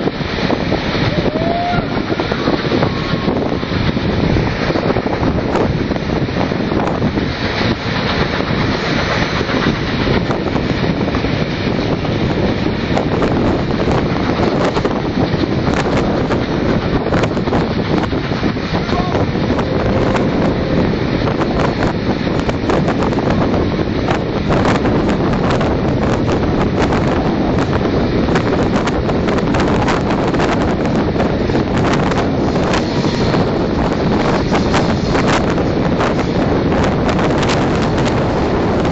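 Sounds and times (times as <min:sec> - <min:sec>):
moving train running noise: 0:00.0 - 0:38.9
wind buffeting microphone: 0:00.0 - 0:38.9.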